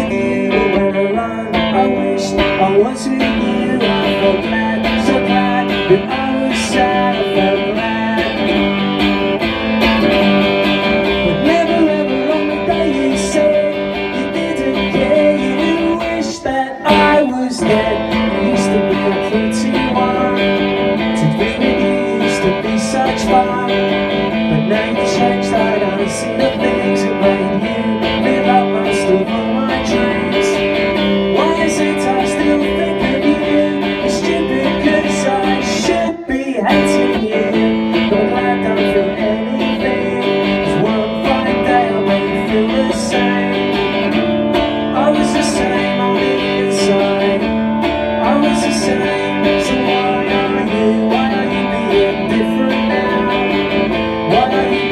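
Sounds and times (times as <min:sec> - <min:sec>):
electric guitar strummed chords: 0:00.0 - 0:54.9.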